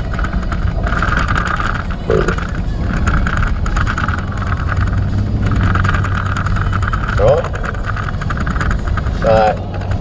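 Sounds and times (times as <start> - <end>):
vehicle road and engine rumble: 0.0 - 10.0.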